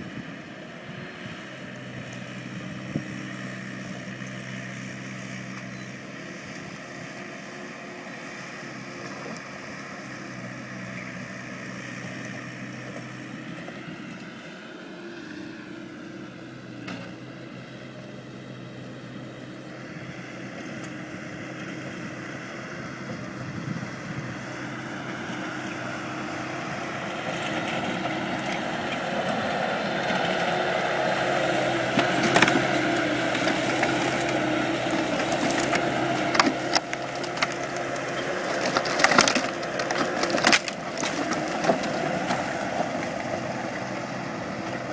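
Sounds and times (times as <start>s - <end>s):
skid steer engine running: 0.0s - 44.9s.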